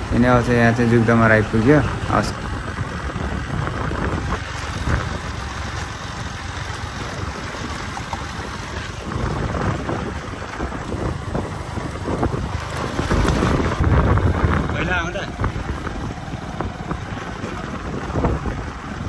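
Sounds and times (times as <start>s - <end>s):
vehicle rumbling on dirt road: 0.0s - 19.0s
wind buffeting microphone: 0.0s - 19.0s.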